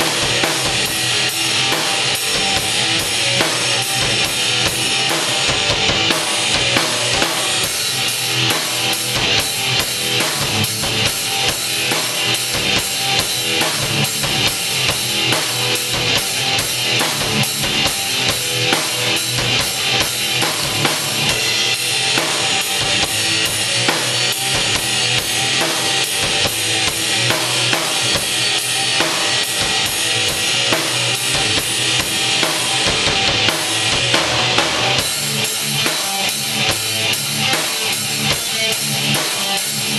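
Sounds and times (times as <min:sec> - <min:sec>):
band playing: 0:00.0 - 0:39.9
drum kit rock beat: 0:00.0 - 0:39.9.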